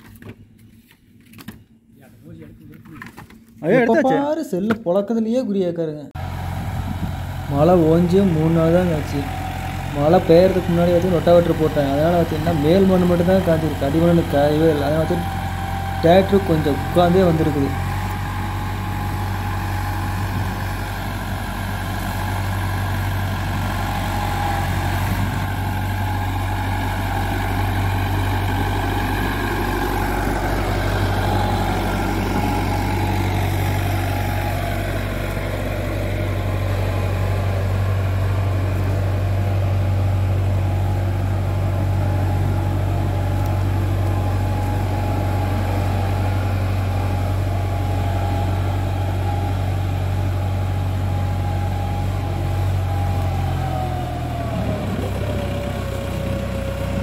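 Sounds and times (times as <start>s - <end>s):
diesel tractor engine running: 6.2s - 57.0s.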